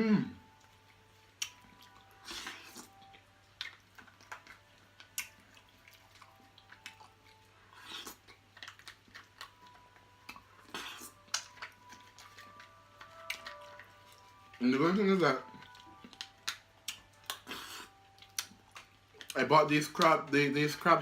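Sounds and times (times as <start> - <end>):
chewing and lip-smacking: 0.4 - 20.7.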